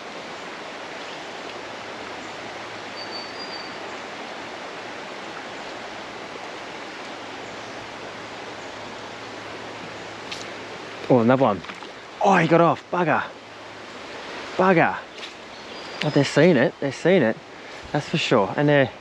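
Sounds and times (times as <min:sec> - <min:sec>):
creek rushing: 0:00.0 - 0:19.0.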